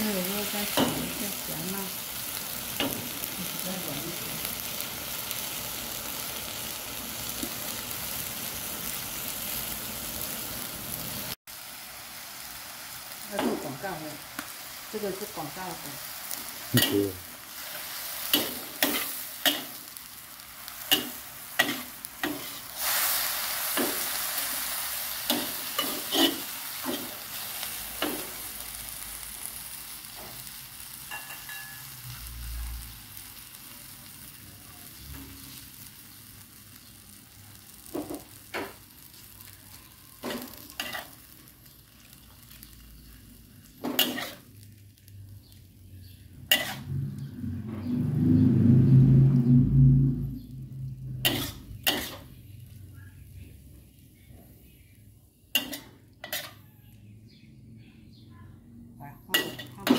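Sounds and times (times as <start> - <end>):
food sizzling in a pan: 0.0 - 57.0, 59.2 - 59.9.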